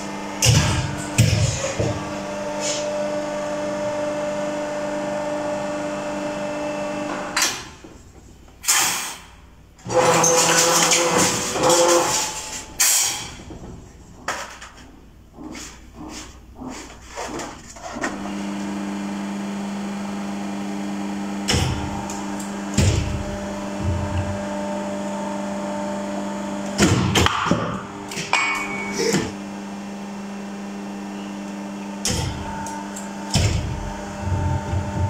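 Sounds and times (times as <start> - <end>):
hydraulic press humming: 0.0 - 14.3, 15.2 - 35.0.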